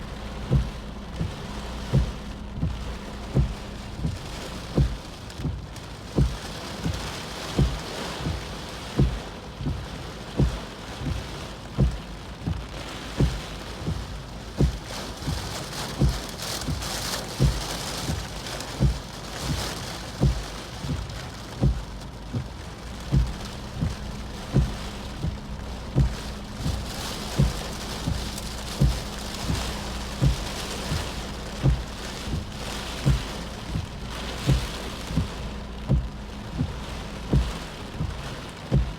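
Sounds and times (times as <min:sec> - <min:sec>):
heavy rain hissing: 0:00.0 - 0:38.9
regular low thump: 0:00.0 - 0:38.9.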